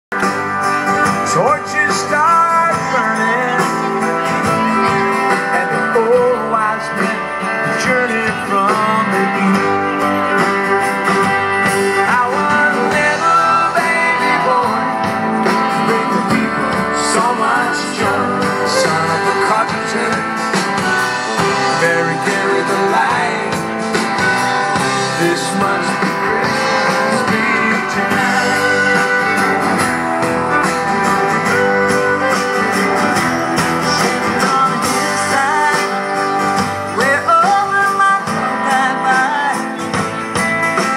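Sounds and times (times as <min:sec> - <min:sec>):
drum kit: 0:00.1 - 0:40.9
guitar: 0:00.1 - 0:40.9
lead singer: 0:00.2 - 0:40.9.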